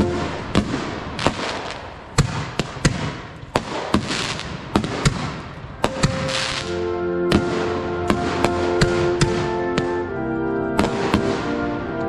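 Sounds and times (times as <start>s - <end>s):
fireworks bangs: 0.0s - 10.2s, 10.8s - 12.0s.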